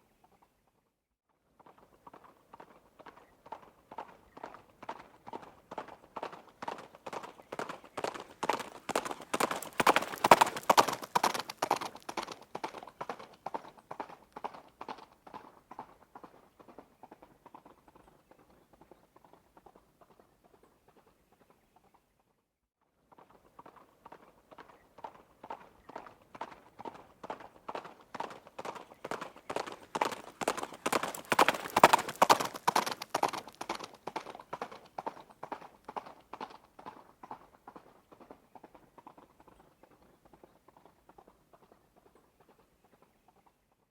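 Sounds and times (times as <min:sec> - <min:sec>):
horse hooves clip-clopping: 0:01.6 - 0:22.0, 0:23.1 - 0:43.5.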